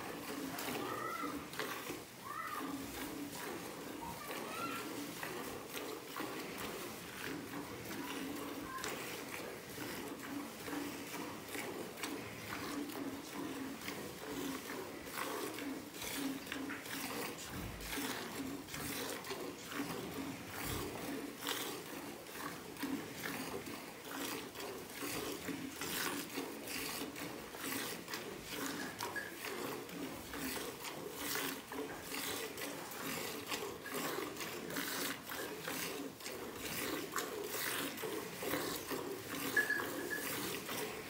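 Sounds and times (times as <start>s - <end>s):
milk squirting into pail: 0.0s - 41.0s.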